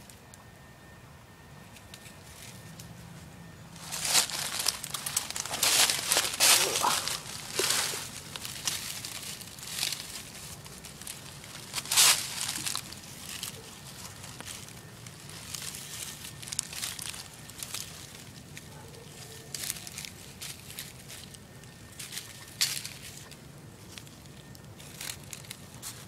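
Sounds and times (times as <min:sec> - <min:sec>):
footsteps crunching dry leaves: 0:03.7 - 0:26.0.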